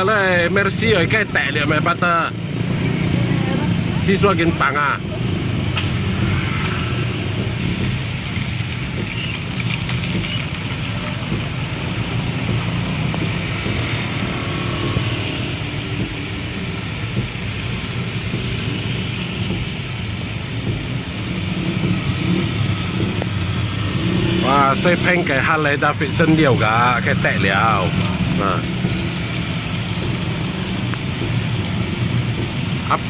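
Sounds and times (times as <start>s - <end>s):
rain and wind hiss: 0.0s - 33.0s
vehicle engine and road rumble: 0.0s - 33.0s.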